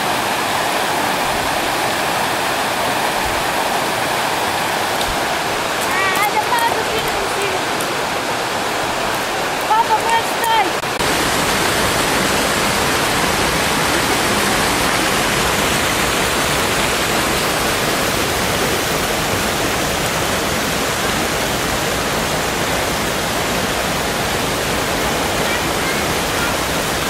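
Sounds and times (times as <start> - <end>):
rushing mountain water: 0.0 - 27.0.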